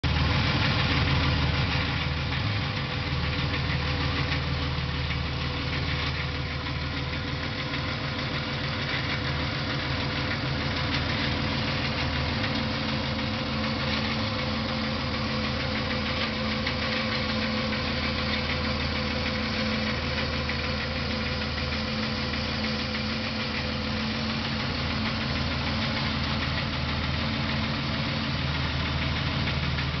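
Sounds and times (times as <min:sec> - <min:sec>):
car engine idling with knock: 0:00.0 - 0:30.0.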